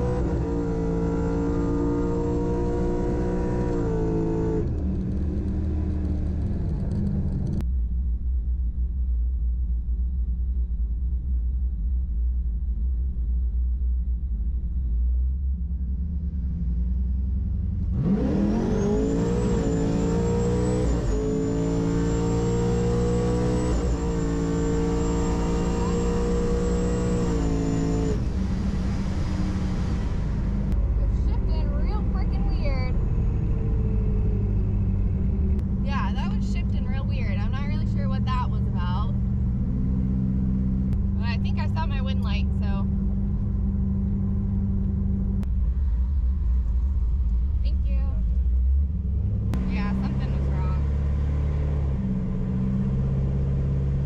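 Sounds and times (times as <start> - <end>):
car engine revving: 0.0 - 7.6, 16.2 - 54.0
supercharger whine: 0.0 - 54.0.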